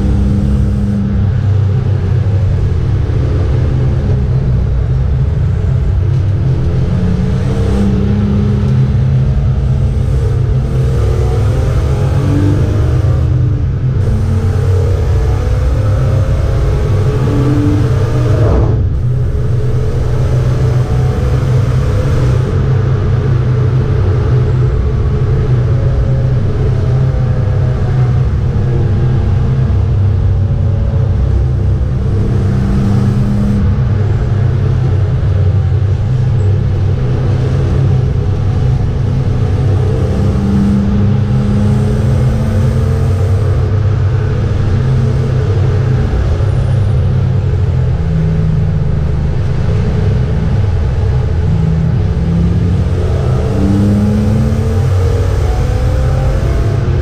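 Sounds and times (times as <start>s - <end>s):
car engine running hard: 0.0s - 57.0s
road and tyre noise: 0.0s - 57.0s.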